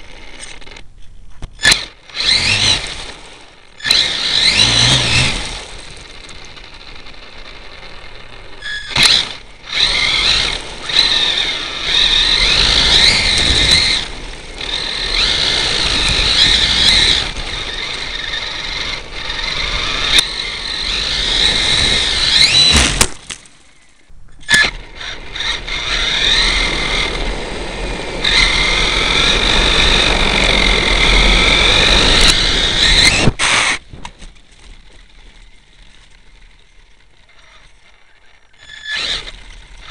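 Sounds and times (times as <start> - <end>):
wheels rumbling: 0.0 - 39.9
electric motor whining: 1.6 - 23.8, 24.4 - 34.0, 34.7 - 39.9.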